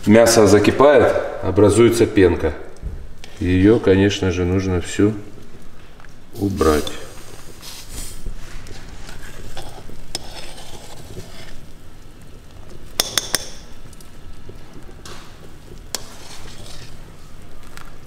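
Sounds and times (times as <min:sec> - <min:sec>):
pot bubbling at the boil: 0:00.0 - 0:18.0.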